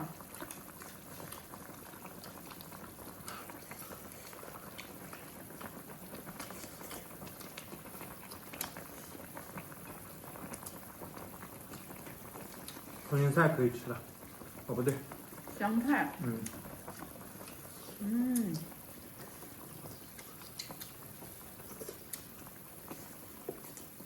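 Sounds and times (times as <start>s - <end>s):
broth boiling and bubbling: 0.0s - 24.0s.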